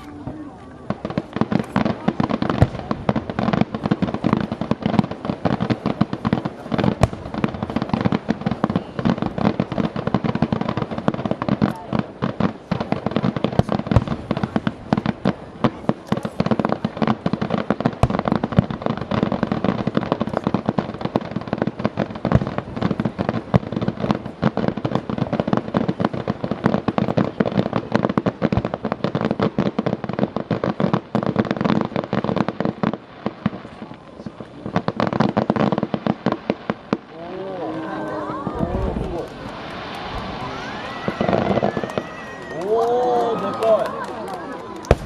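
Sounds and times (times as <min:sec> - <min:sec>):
fireworks bangs and crackling pops: 0:00.0 - 0:45.0.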